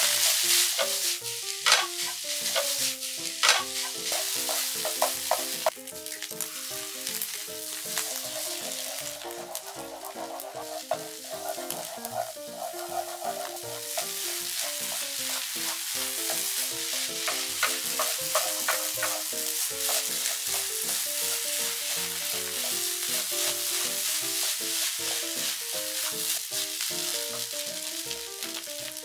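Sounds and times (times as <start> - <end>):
rice sizzling in a frying pan: 0.0 - 29.0
soft background music: 0.0 - 29.0
wooden spoon scraping a pan: 0.0 - 29.0.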